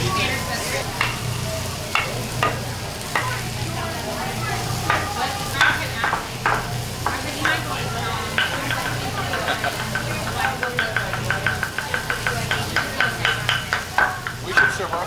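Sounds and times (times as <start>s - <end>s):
chicken sizzling on griddle: 0.0s - 15.0s.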